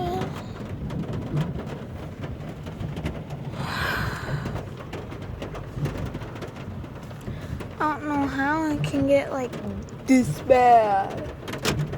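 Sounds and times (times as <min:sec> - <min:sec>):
heavy rain on car roof: 0:00.0 - 0:11.9.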